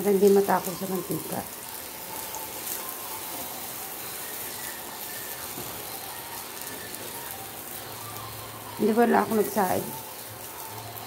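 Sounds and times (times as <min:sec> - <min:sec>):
eggplant sizzling in hot oil: 0:00.0 - 0:11.0.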